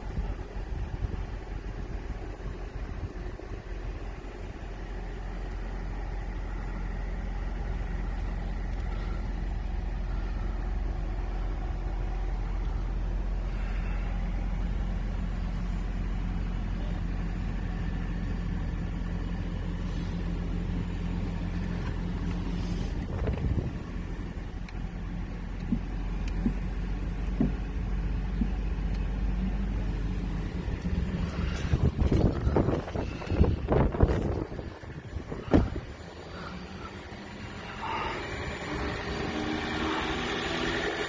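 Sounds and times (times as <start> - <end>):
car engine low rumble: 0.0 - 41.0
steady hum: 0.0 - 41.0.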